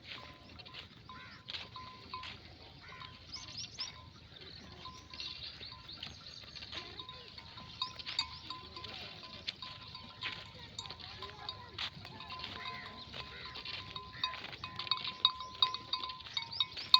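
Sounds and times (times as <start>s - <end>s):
sheep bells clanking: 0.0s - 16.9s.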